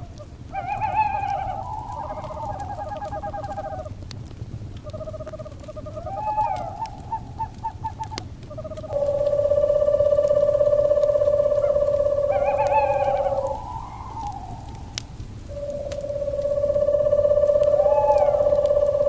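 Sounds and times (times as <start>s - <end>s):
owls trilling: 0.0s - 3.9s, 4.8s - 19.0s
wood fire crackling: 0.0s - 19.0s.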